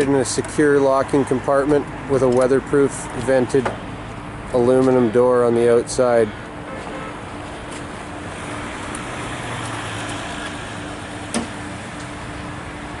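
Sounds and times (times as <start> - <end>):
background traffic noise: 0.0 - 13.0.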